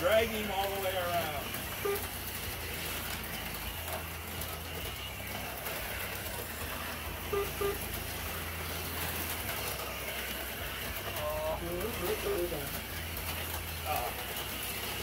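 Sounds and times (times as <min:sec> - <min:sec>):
slot car motors whirring: 0:00.0 - 0:15.0.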